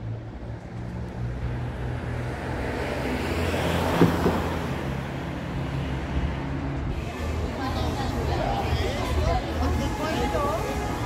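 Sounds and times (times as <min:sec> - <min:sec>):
traffic engine hum: 0:00.0 - 0:11.0
vehicle passing by: 0:00.0 - 0:11.0.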